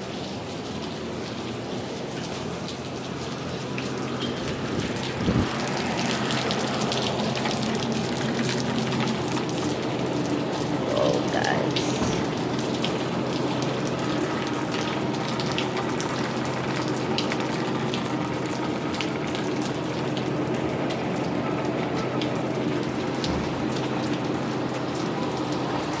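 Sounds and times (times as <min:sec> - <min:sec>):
raindrops ticking nearby: 0:00.0 - 0:26.0
steady rain falling: 0:00.0 - 0:26.0.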